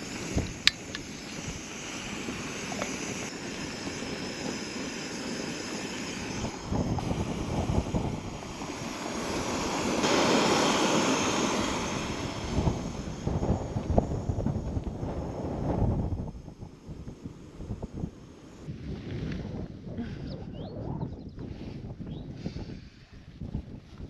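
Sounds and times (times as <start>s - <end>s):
gas burner hissing: 0.0s - 20.6s.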